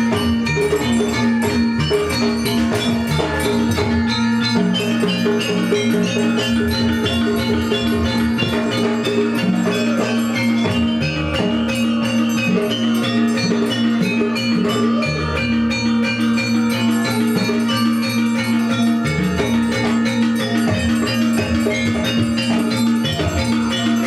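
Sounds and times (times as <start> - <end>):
drums: 0.0 - 24.0
metal-key percussion: 0.0 - 24.0.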